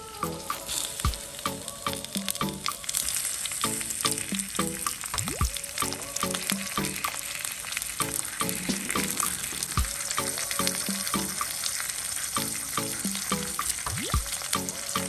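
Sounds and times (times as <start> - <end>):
light background music: 0.0 - 7.2, 7.9 - 15.0
food sizzling in hot oil: 0.0 - 15.0.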